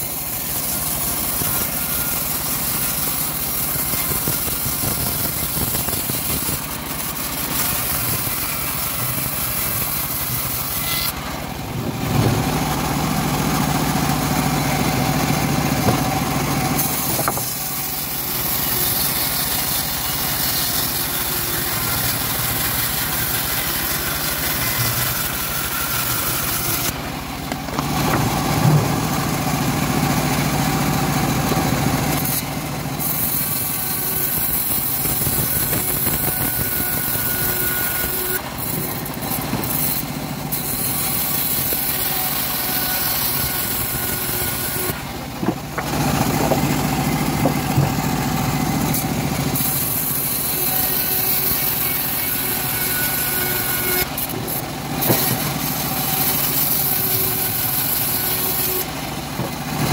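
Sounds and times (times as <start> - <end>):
bandsaw cutting wood: 0.0 - 59.9.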